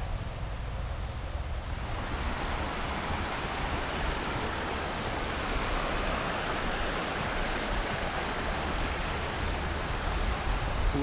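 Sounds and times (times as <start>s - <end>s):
creek rushing over rocks: 0.0s - 11.0s
low water rumble: 0.0s - 11.0s.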